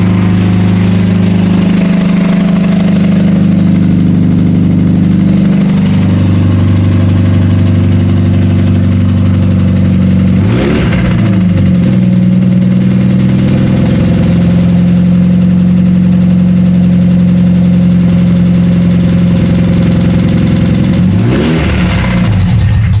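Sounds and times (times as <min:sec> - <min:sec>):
straight-piped car exhaust revving: 0:00.0 - 0:23.0.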